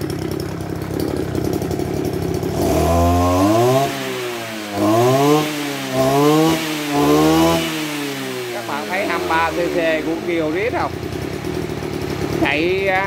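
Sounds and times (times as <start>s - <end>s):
brush cutter engine revving: 0.0s - 13.0s.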